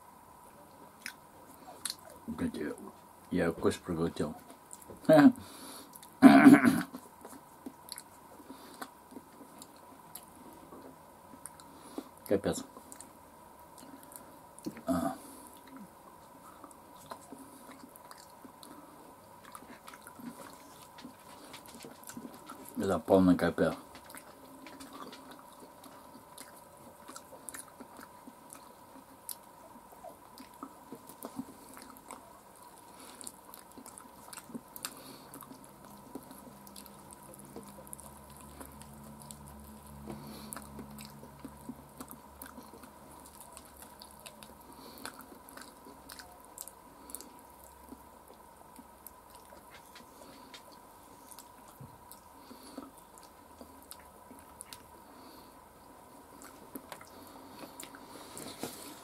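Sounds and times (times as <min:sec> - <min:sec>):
chewing fried chicken: 0:00.4 - 0:59.0.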